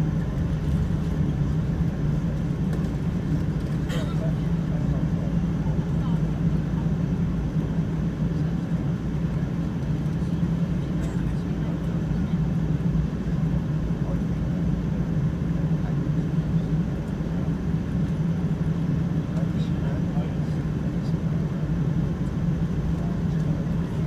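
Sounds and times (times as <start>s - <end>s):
airplane engines droning in cabin: 0.0s - 24.0s.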